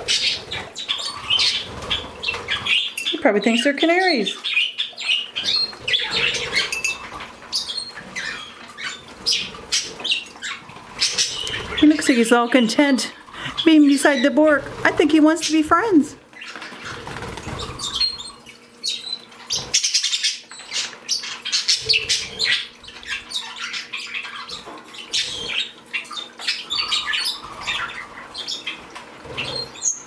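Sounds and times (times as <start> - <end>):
wings fluttering: 0.0 - 3.0, 5.3 - 12.1, 13.3 - 30.0
small birds chirping: 0.0 - 30.0.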